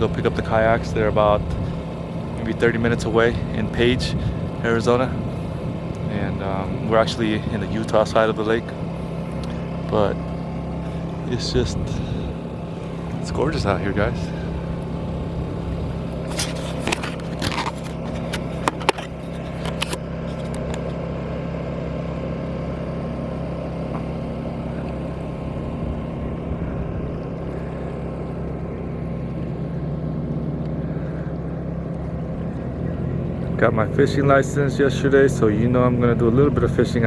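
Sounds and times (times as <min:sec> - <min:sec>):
generator humming: 0:00.0 - 0:37.0.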